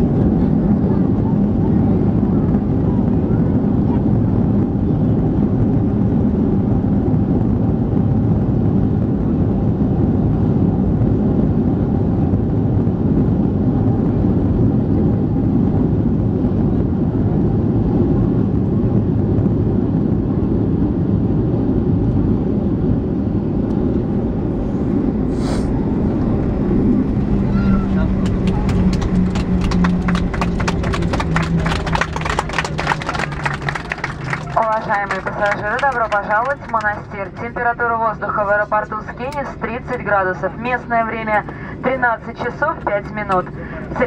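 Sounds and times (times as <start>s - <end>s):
jet engine rumble in cabin: 0.0s - 44.0s.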